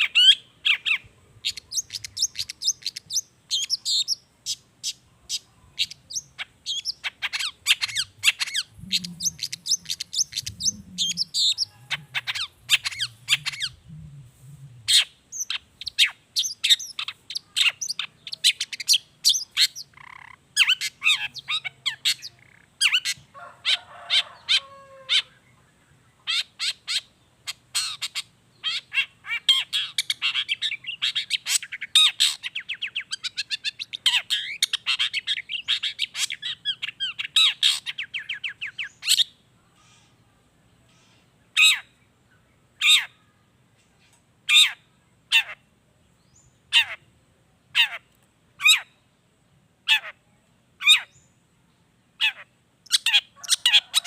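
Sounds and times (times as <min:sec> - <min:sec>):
harsh bird calls: 0:00.0 - 0:43.4, 0:44.0 - 0:45.7, 0:46.3 - 0:47.1, 0:47.7 - 0:49.1, 0:49.8 - 0:51.3, 0:52.0 - 0:54.0
bird chattering song: 0:00.0 - 0:49.1, 0:49.8 - 0:54.0.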